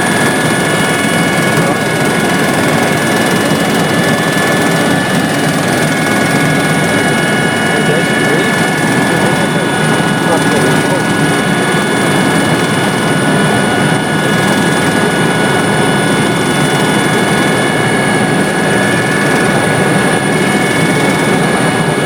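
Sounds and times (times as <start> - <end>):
helicopter engine and rotor noise: 0.0 - 22.0.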